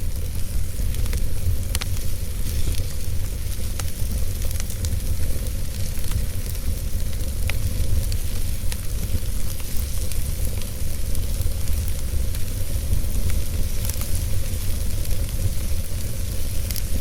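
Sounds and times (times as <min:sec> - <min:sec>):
burning logs crackling and popping: 0:00.0 - 0:17.0
roar and hiss of flames: 0:00.0 - 0:17.0.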